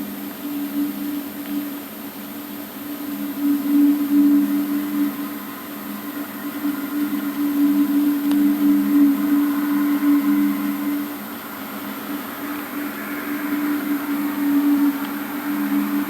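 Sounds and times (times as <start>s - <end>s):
low droning hum in the sky: 0.0s - 16.0s.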